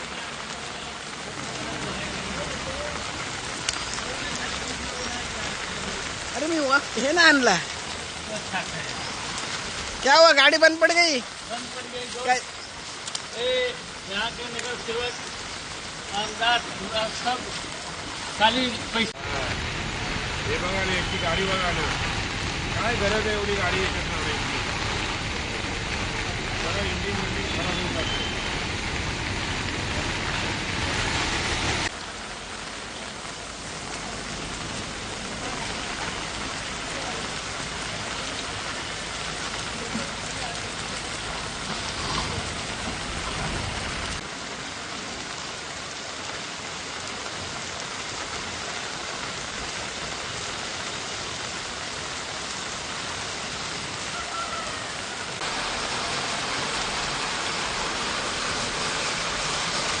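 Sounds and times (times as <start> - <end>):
heavy rain hissing: 0.0 - 60.0.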